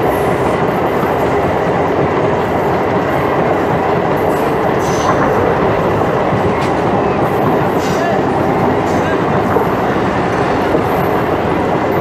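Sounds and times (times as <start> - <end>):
train wheels on track: 0.0 - 12.0.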